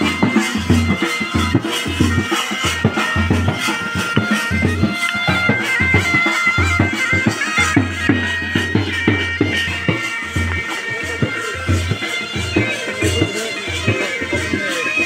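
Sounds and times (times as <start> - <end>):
steady drum beat: 0.0 - 15.0
wind instrument melody: 0.0 - 15.0.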